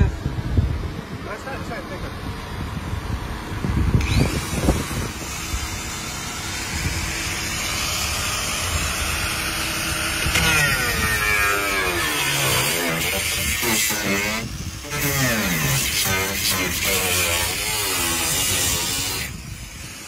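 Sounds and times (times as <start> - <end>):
angle grinder whining: 3.9 - 20.0.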